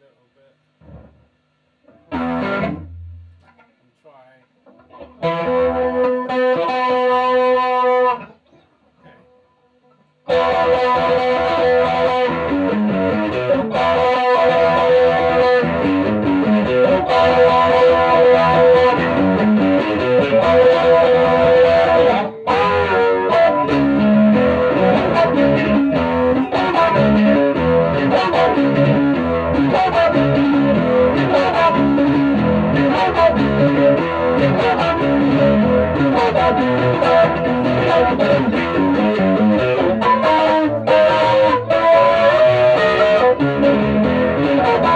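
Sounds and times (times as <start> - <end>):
electric guitar chords and notes: 0.8 - 1.2, 1.8 - 3.7, 4.6 - 44.9.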